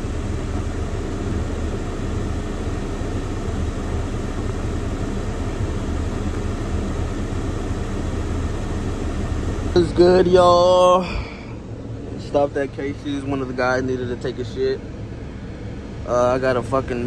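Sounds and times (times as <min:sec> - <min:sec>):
faint steady hum: 0:00.0 - 0:17.0
road and engine rumble in car cabin: 0:00.0 - 0:17.0.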